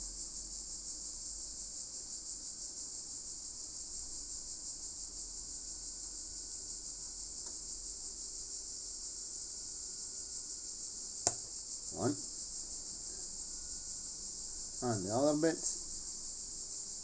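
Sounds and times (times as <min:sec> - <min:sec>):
high-pitched insect chirring: 0:00.0 - 0:17.0.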